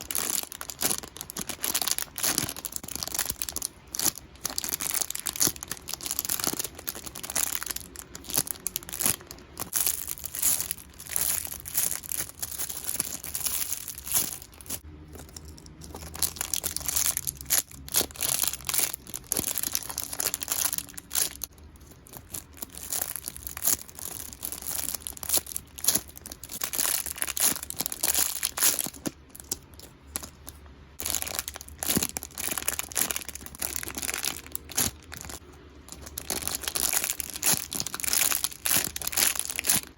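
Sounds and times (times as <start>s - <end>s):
plastic bags crinkling: 0.0s - 39.9s.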